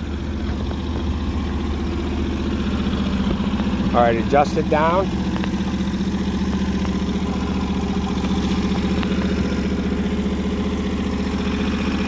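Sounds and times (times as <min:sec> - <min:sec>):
sawmill engine idling: 0:00.0 - 0:12.0.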